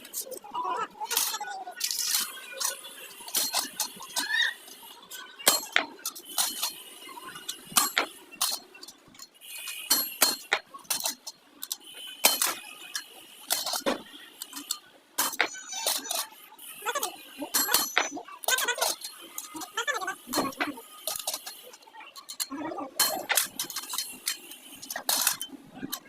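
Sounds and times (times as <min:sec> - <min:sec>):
metal tools clinking: 0:01.1 - 0:26.0.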